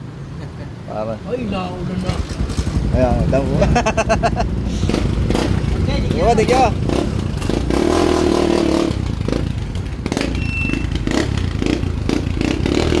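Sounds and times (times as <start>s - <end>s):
motorcycle engine idling: 1.7s - 13.0s.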